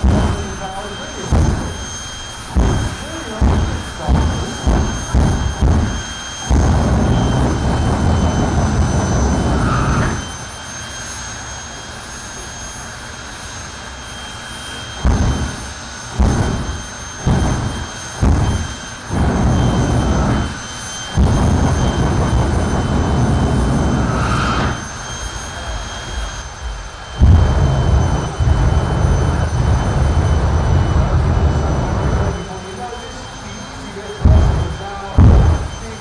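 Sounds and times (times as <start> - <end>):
afterburner blasts: 0.0 - 10.8, 14.9 - 32.8, 33.6 - 36.0
turbine engine high whine: 0.0 - 36.0.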